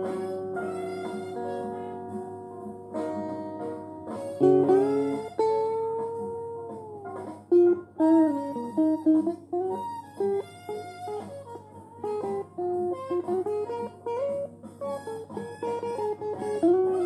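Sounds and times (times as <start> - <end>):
electric guitar lead lines: 0.0 - 17.0.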